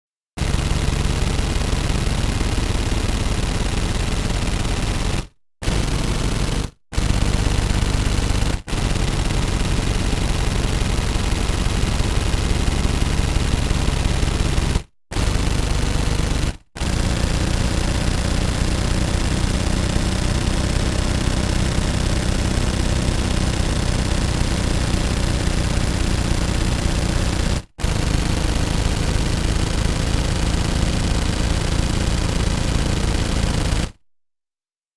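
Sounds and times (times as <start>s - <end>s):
automatic gunfire bursts: 0.4s - 34.0s.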